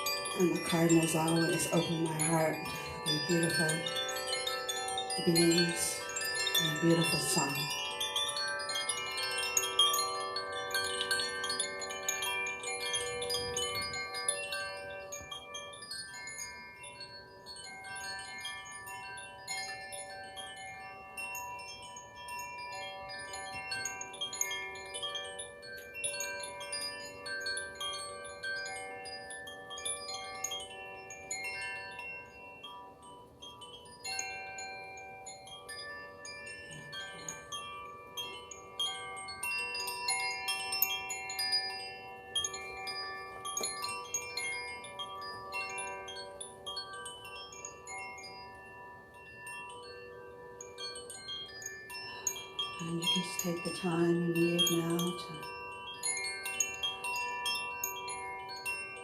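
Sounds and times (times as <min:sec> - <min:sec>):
chimes ringing: 0:00.0 - 0:59.0.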